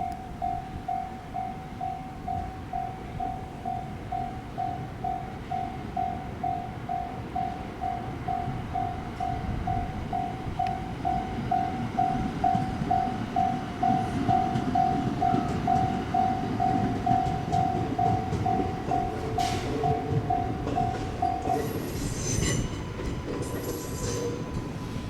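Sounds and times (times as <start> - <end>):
level crossing warning bell ringing: 0.0 - 24.5
train rumbling past: 0.2 - 25.0.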